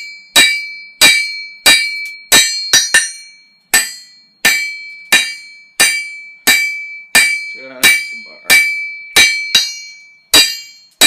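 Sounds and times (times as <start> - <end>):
hammer striking steel on anvil: 0.0 - 11.0.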